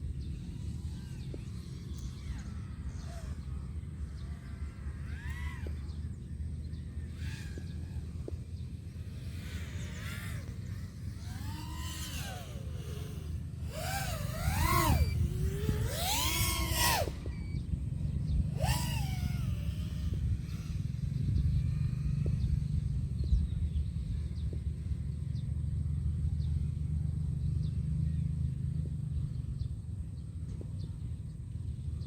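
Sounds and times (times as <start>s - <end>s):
drone motors whining: 0.0s - 25.7s.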